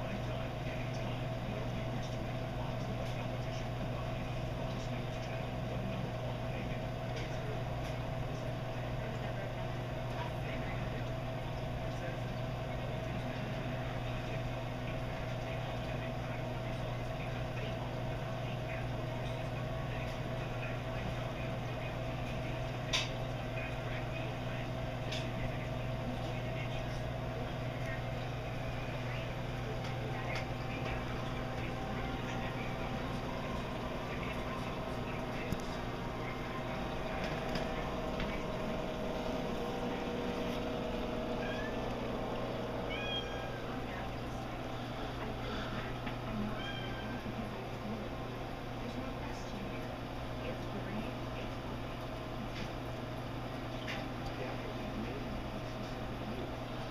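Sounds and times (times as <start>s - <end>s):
aquarium pumps humming: 0.0s - 56.9s.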